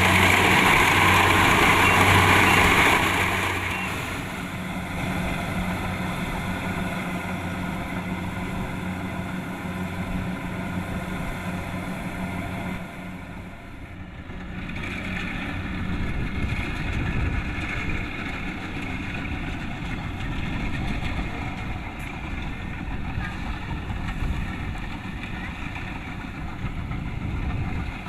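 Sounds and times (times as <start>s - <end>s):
combine harvester engine hum: 0.0s - 28.0s.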